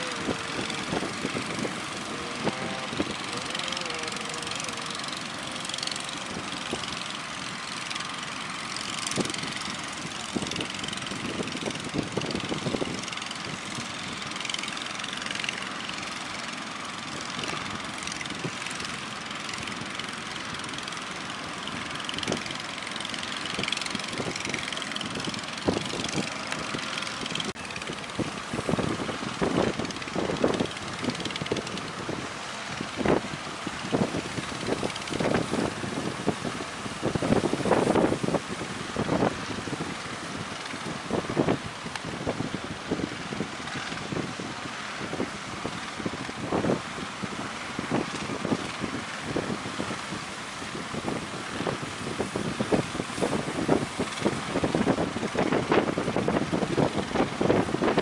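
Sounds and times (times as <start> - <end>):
big waves breaking: 0.0 - 58.0
engine running: 0.0 - 58.0.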